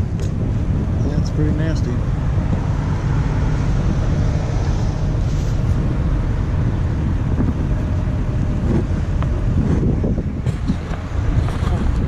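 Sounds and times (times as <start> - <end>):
road traffic rumble: 0.0 - 12.0
wind buffeting microphone: 0.0 - 12.0.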